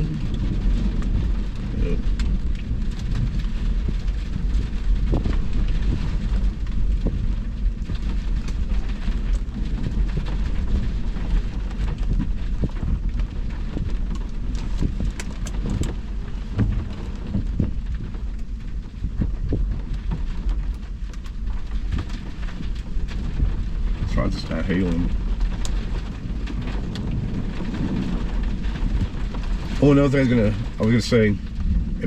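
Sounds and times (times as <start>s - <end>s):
heavy rain falling: 0.0s - 32.0s
low thunder rumble: 0.0s - 32.0s.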